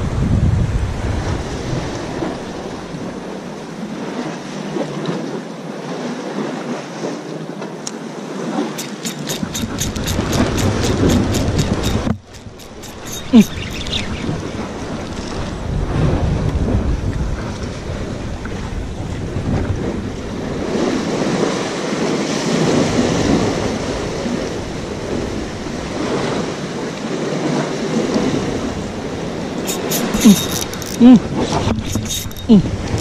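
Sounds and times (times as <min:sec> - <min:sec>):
wind rumbling on microphone: 0:00.0 - 0:05.4, 0:08.4 - 0:33.0
sea waves washing against pillars: 0:00.0 - 0:33.0.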